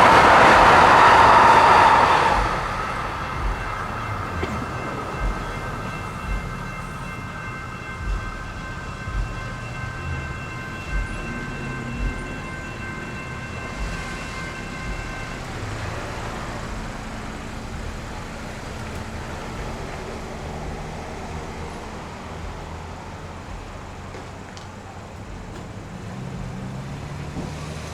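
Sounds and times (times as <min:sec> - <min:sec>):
crossing bells ringing: 0:00.0 - 0:27.9
road traffic noise: 0:00.0 - 0:27.9
train wheels thumping: 0:00.0 - 0:27.9.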